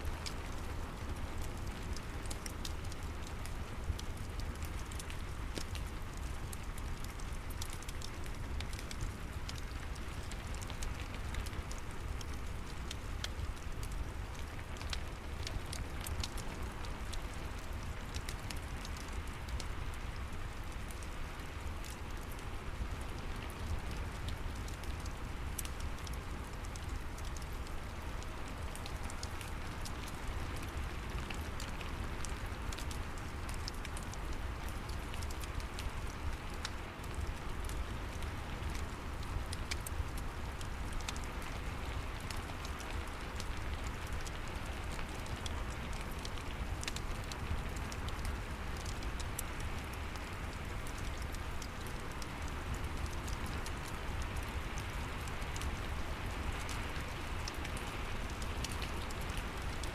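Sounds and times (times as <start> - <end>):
steady rain: 0.0 - 59.9
wood fire crackling: 0.0 - 59.9.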